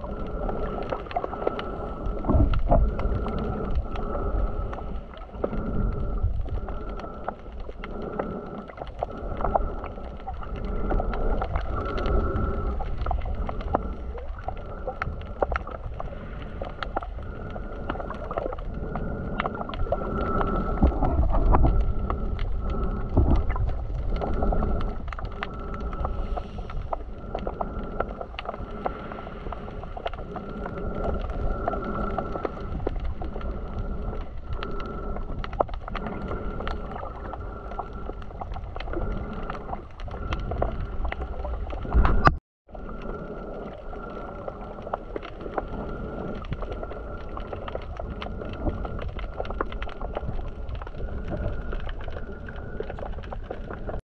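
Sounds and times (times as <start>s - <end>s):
water sloshing and gurgling: 0.0s - 54.0s.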